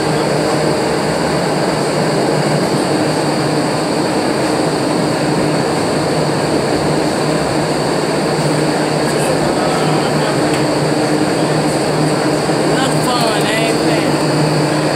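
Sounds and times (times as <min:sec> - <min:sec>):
wind tunnel fans rushing air: 0:00.0 - 0:14.9.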